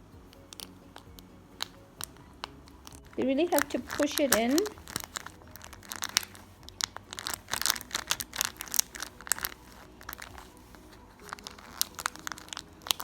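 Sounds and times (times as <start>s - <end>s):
faint background music: 0.0s - 13.0s
plastic crackling and tearing: 0.5s - 13.0s.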